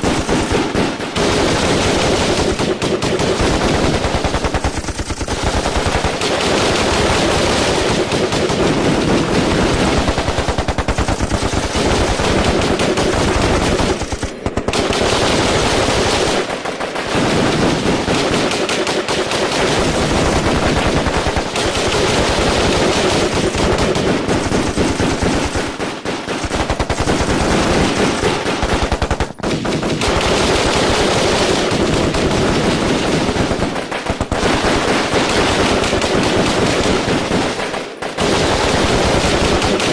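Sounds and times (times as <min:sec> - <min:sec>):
automatic gunfire: 0:00.0 - 0:39.9.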